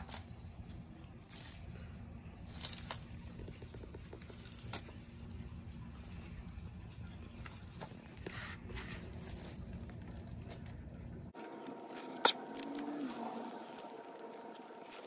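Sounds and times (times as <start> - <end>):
tortoise crunching lettuce: 0.0 - 15.0.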